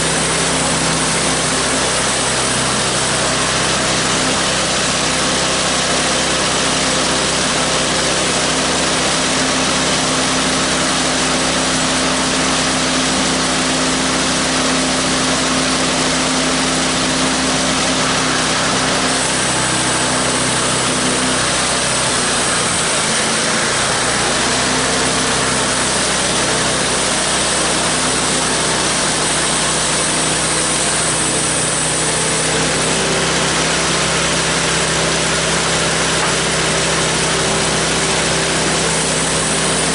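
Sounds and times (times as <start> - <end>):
bandsaw cutting log: 0.0 - 39.9
sawmill engine running: 0.0 - 39.9.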